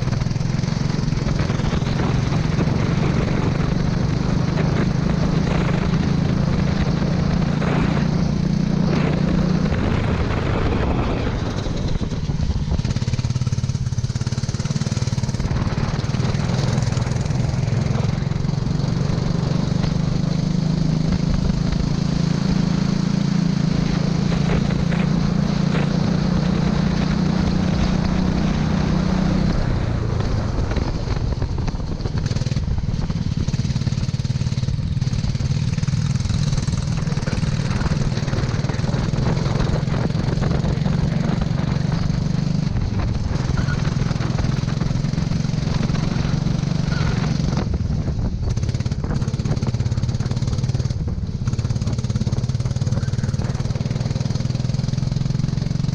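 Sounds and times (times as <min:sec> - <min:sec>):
kart engine running hard: 0:00.0 - 0:55.9.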